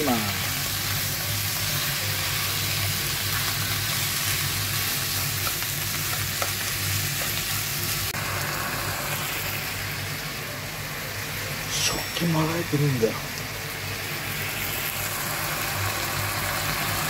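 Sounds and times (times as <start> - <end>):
food sizzling in a frying pan: 0.0 - 17.0.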